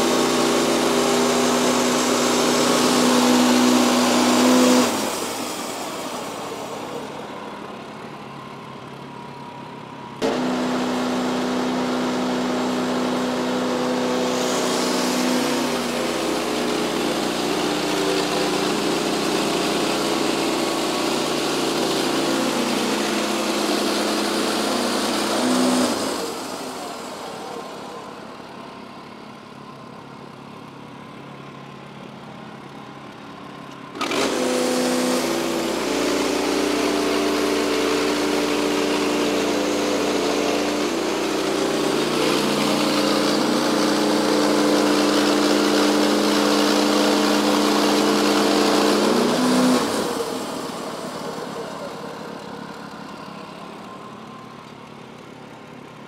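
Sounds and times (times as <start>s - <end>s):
band sawmill running: 0.0s - 56.0s.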